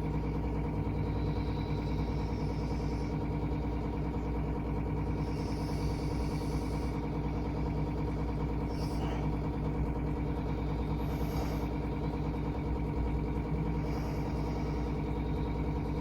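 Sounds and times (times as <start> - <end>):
low droning hum: 0.0 - 16.0.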